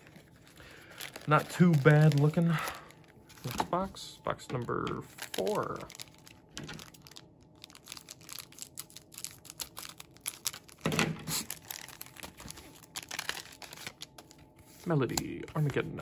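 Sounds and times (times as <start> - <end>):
foil wrappers crinkling: 0.0 - 4.0, 4.6 - 16.0.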